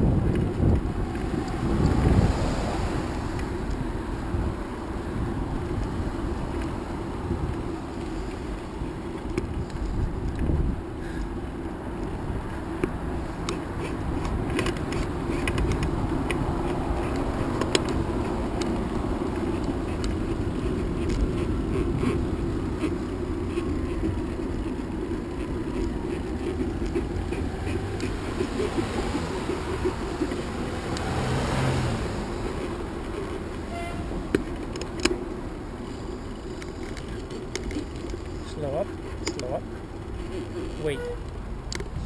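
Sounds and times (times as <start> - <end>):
vehicle passing close: 0.0 - 8.9, 12.2 - 37.3
rumble of passing cars: 0.0 - 42.0
small clicks and ticks: 7.4 - 31.8, 32.4 - 42.0.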